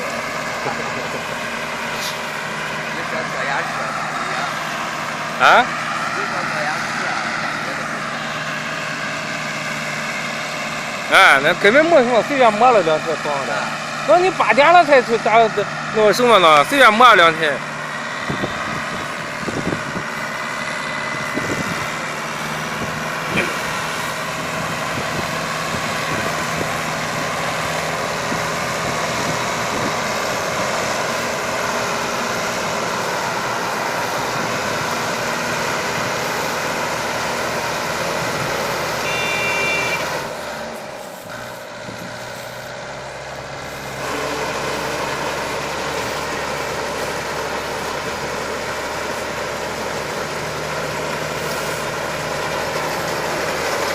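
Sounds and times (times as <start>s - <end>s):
hay baler engine running: 0.0s - 53.9s.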